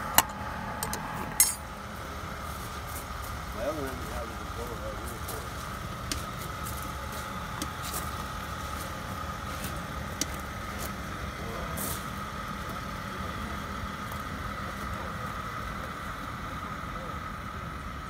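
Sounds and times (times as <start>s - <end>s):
constant whine: 0.0s - 18.0s.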